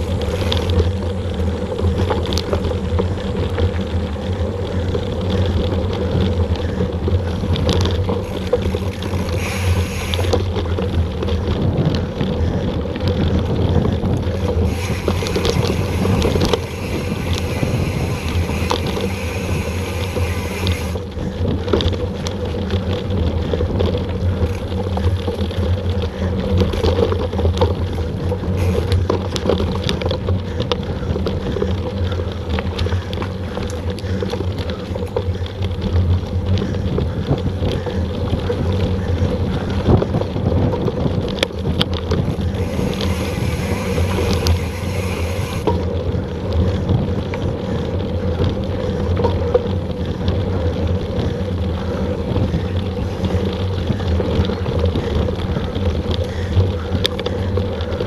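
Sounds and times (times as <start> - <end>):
bike rattles and knocks: 0.0 - 58.0
tyre rumble: 0.0 - 58.0
wind buffeting: 0.0 - 58.0.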